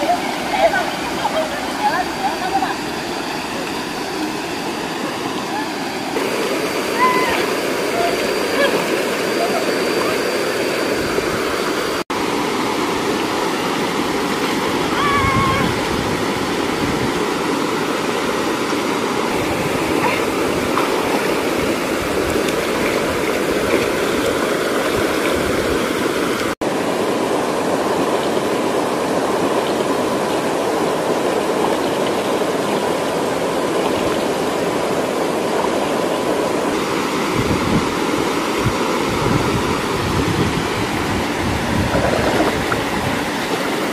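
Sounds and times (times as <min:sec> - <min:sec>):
stream and small waterfall rushing: 0:00.0 - 0:43.9.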